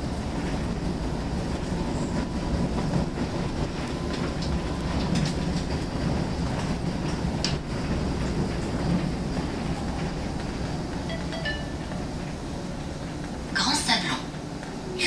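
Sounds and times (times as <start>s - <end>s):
bus cabin low rumble: 0.0s - 15.0s.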